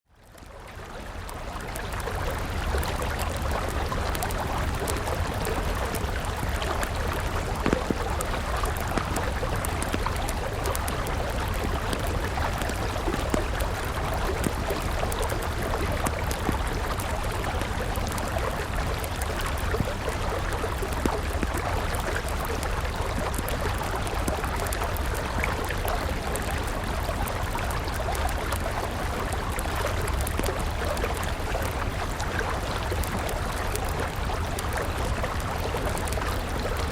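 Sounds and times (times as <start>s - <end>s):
river water flowing: 0.2s - 36.9s
campfire crackling: 0.4s - 36.9s.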